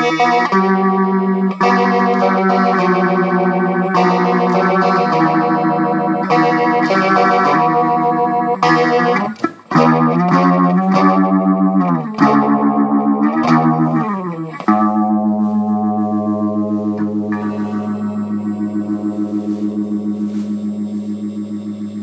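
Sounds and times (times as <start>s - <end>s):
distorted guitar: 0.0s - 22.0s.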